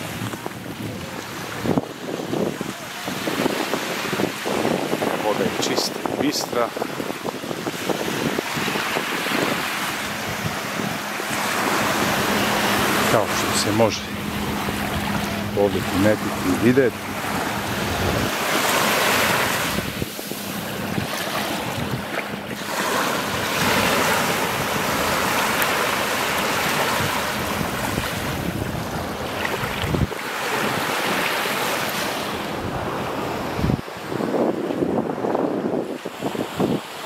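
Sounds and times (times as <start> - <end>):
sea waves washing onto beach: 0.0 - 37.0
wind buffeting microphone: 0.0 - 37.0.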